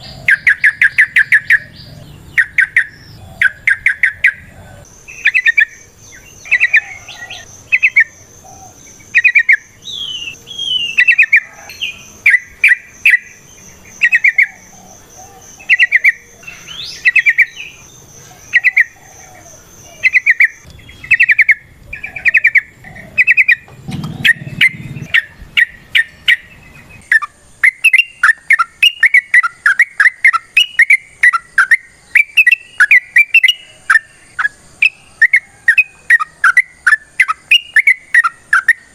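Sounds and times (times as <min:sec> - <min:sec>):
bird singing bubbly phrases: 0:00.0 - 0:38.9.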